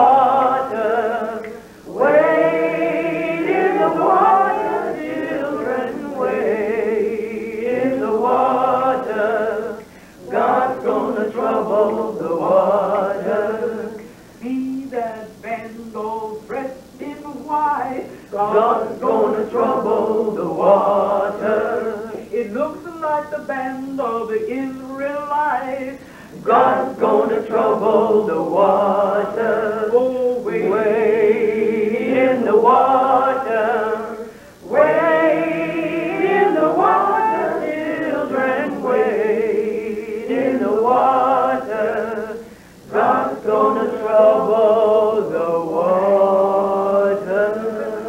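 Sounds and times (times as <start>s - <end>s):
unaccompanied singing with vibrato: 0.0s - 48.0s.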